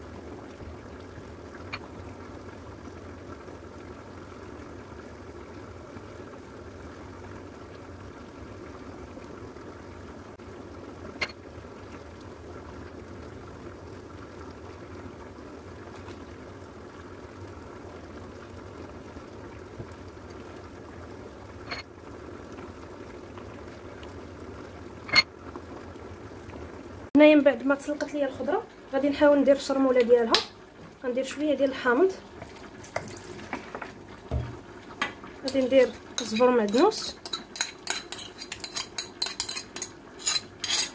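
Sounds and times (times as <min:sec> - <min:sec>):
low kitchen background noise: 0:00.0 - 0:40.9.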